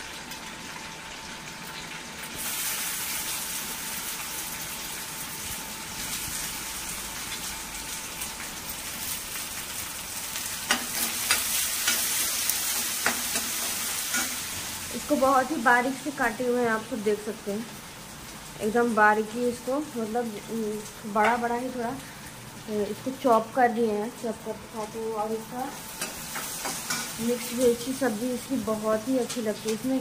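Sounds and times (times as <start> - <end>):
onion sizzling in hot oil: 0.0 - 30.0.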